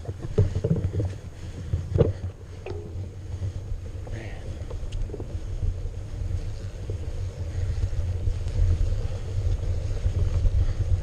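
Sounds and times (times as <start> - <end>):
bike shaking over ground: 0.0 - 11.0
wind buffeting microphone: 0.0 - 11.0.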